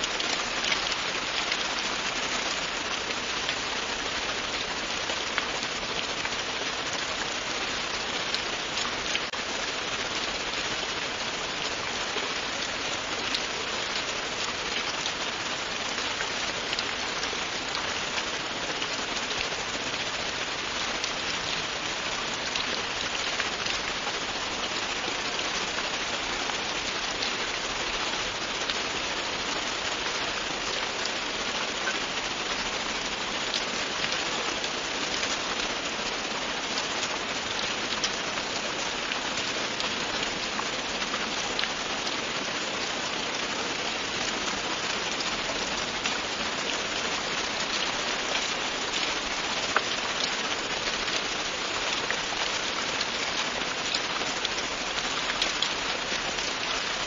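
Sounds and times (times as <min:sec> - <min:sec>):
rain pattering on hard surface: 0:00.0 - 0:57.0.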